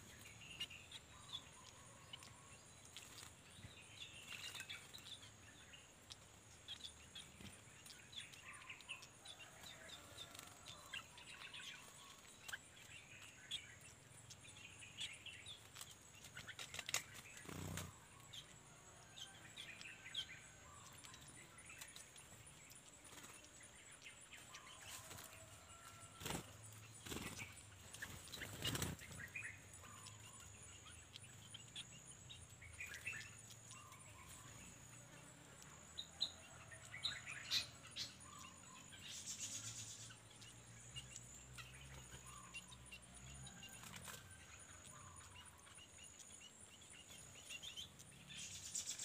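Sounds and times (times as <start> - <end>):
songbirds chirping: 0.0 - 49.0.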